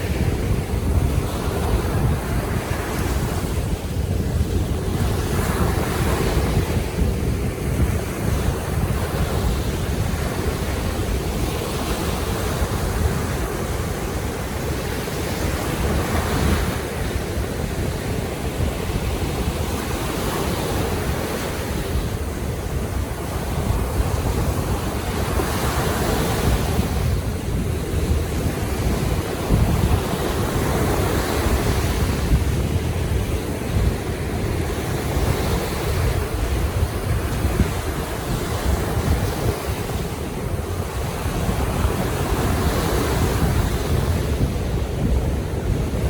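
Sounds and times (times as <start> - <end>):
sea waves surging: 0.0 - 46.0
wind buffeting microphone: 0.0 - 46.0.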